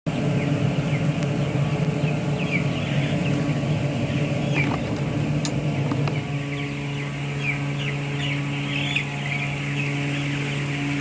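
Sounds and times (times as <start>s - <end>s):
chicks peeping: 0.1s - 11.0s
low mechanical hum: 0.1s - 11.0s.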